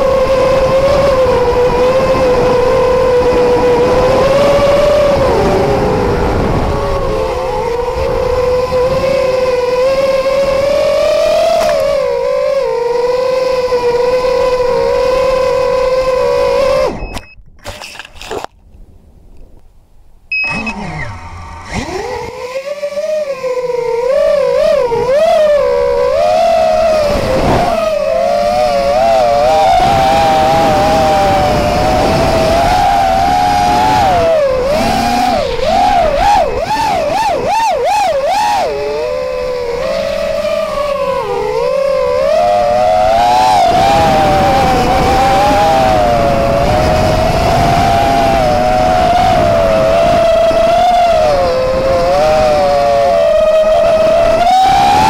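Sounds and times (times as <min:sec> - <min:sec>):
quadcopter motors whining: 0:00.0 - 0:18.5, 0:20.3 - 0:55.0.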